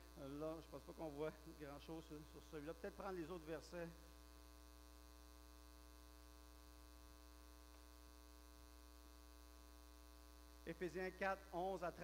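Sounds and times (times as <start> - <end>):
low electrical mains hum: 0.0 - 12.0.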